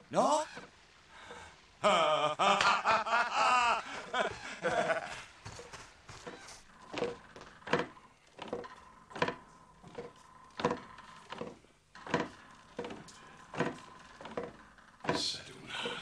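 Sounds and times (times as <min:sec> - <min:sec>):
rhythmic wooden knocking: 0:00.0 - 0:16.0.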